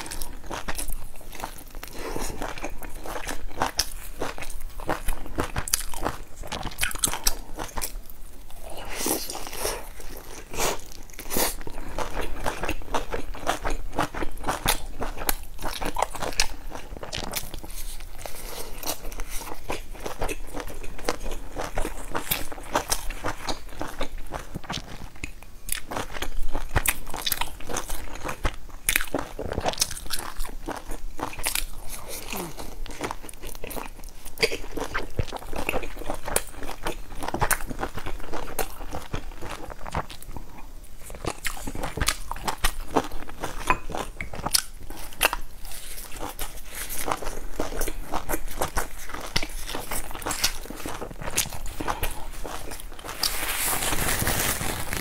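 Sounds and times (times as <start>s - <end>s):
biting and chewing dumplings: 0.0s - 55.0s.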